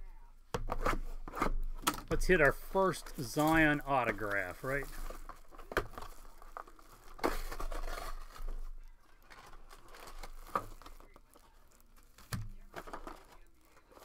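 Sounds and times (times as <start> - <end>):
wrapper crinkling and tearing: 2.2 - 14.0.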